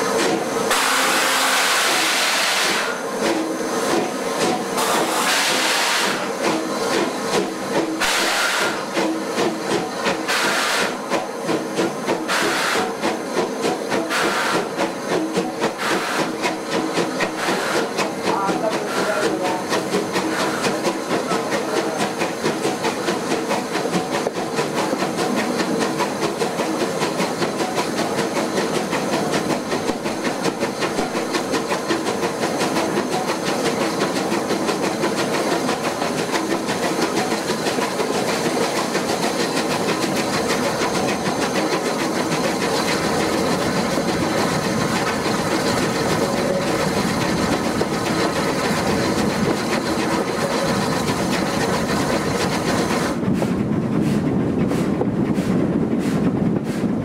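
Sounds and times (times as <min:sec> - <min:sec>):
steam hiss: 0:00.0 - 0:56.9
steam locomotive exhaust beat: 0:00.0 - 0:57.0
carriage wheels clattering on rails: 0:03.3 - 0:55.6.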